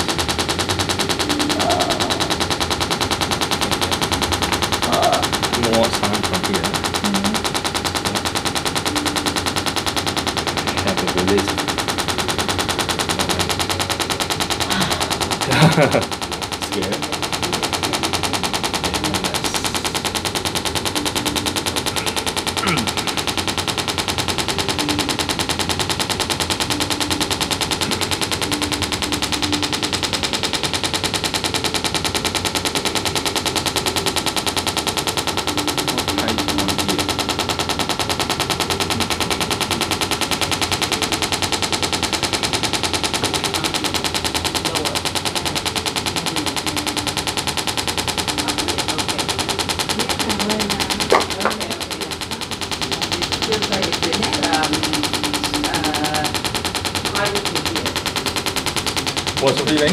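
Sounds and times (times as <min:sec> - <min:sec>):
electric massage device pounding: 0:00.0 - 0:59.9.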